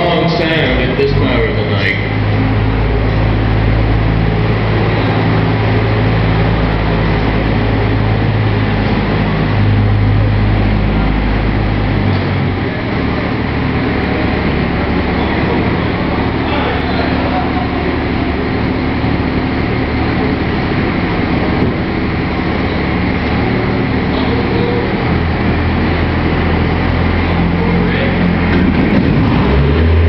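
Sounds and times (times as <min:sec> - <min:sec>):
truck engine droning: 0:00.0 - 0:30.0.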